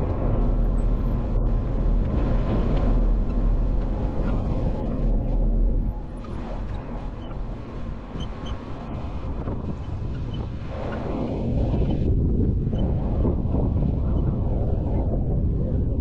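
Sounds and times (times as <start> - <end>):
off-road vehicle rumble: 0.0 - 16.0.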